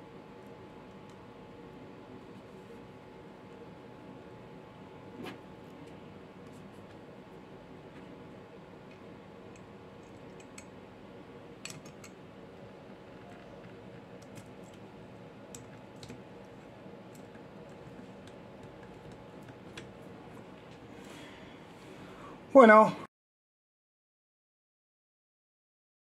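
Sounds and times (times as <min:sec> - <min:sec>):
low room hum: 0:00.0 - 0:23.1.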